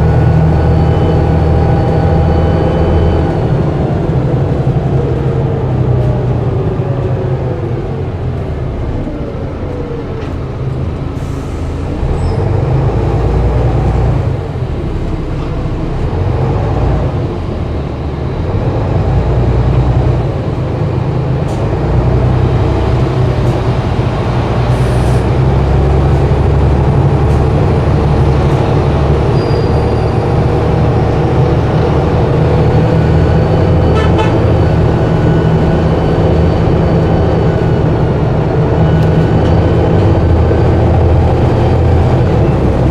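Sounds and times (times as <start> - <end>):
diesel bus engine running: 0.0 - 42.9.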